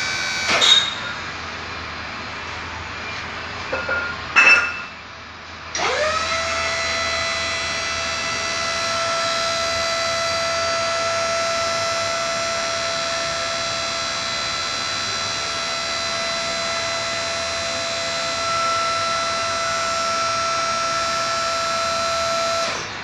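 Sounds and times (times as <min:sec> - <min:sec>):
drill rig motor whining: 0:00.0 - 0:01.4, 0:05.7 - 0:23.0.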